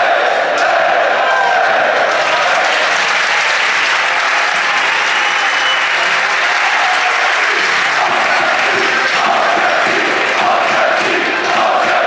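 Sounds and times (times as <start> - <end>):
stadium crowd applauding: 1.4 - 12.0.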